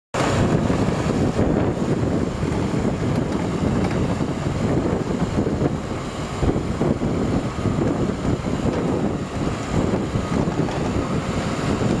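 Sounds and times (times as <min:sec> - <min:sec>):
tractor engine running: 0:00.2 - 0:12.0
wind buffeting microphone: 0:00.2 - 0:12.0.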